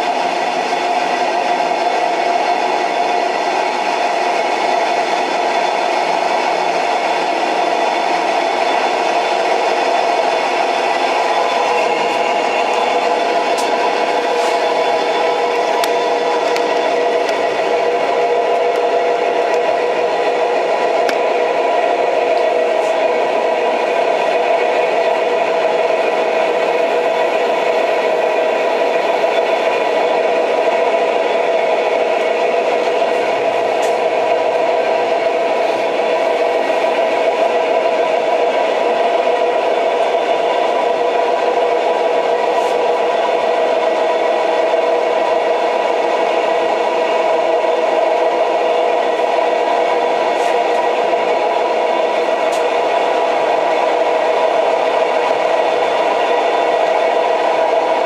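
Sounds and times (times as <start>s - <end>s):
train hum and whine: 0.0s - 58.0s.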